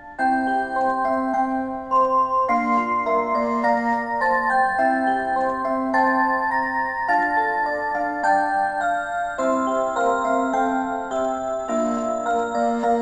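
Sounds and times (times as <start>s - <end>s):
bell-like clock melody: 0.0s - 13.0s.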